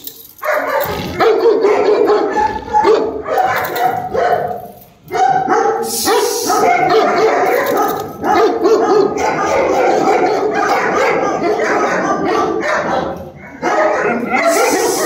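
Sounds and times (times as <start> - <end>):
large dogs barking: 0.3 - 15.0.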